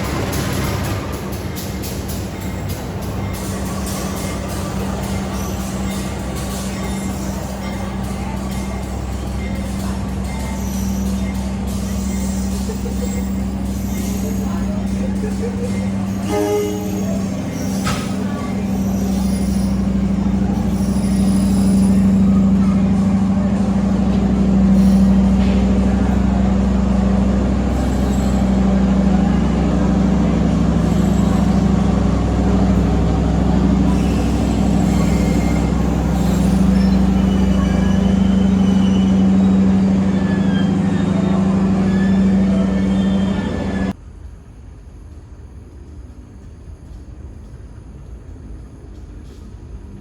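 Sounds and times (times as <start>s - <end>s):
locomotive engine droning: 0.0s - 44.0s.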